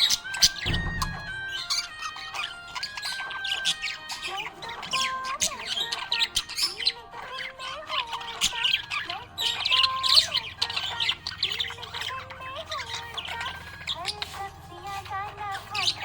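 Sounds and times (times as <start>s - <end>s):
background music with simple melody: 0.0s - 16.0s
budgerigar chirping and warbling: 0.0s - 16.0s.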